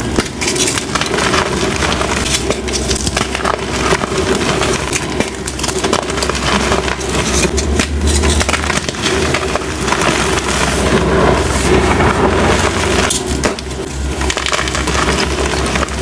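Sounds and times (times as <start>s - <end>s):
chalk crunching and crackling: 0.0s - 16.0s.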